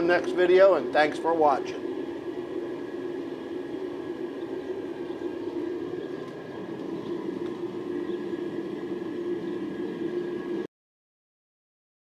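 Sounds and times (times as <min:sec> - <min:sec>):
furnace roaring: 0:00.0 - 0:10.7.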